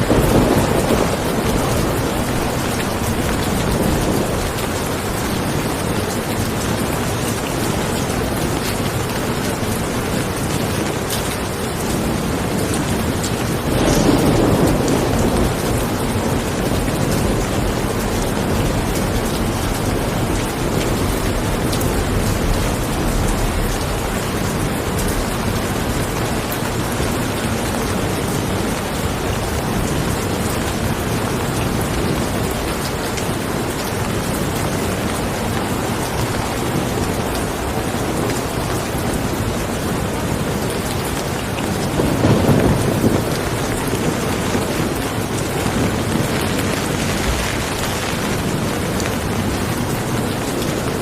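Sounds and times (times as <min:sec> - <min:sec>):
rain falling: 0:00.0 - 0:51.0
thunder rumbling: 0:00.0 - 0:51.0.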